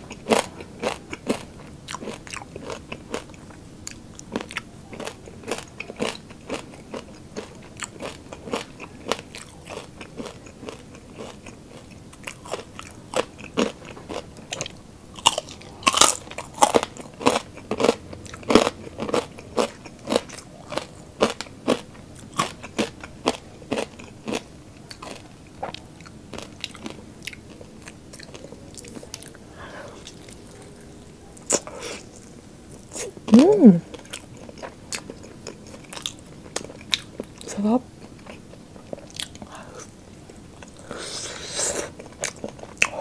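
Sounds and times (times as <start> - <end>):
crunching and chewing crispy food: 0.0 - 43.0.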